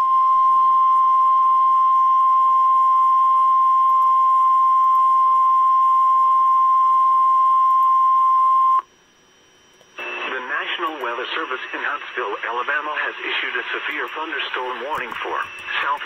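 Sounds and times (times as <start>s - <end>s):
loud steady alarm beep: 0.0s - 16.0s.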